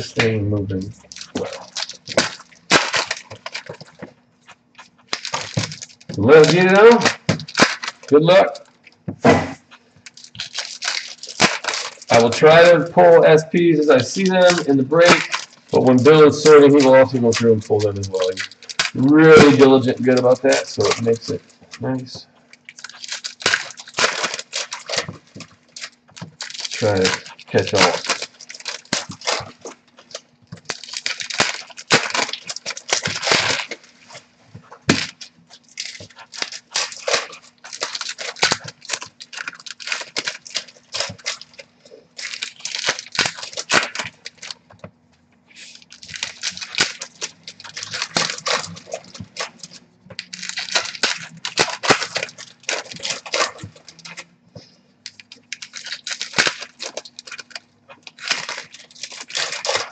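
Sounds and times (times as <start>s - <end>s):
cards being handled: 0.0s - 59.9s
wrappers tearing and crinkling: 0.0s - 59.9s.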